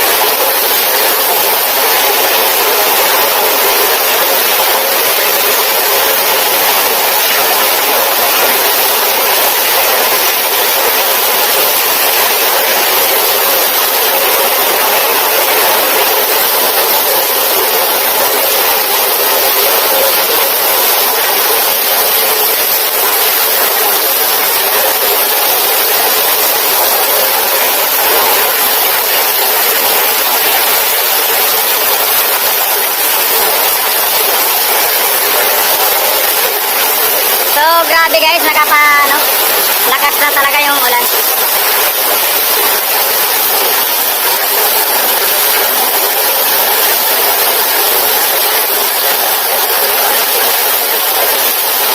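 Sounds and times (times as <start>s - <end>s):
heavy rain downpour: 0.0s - 51.9s.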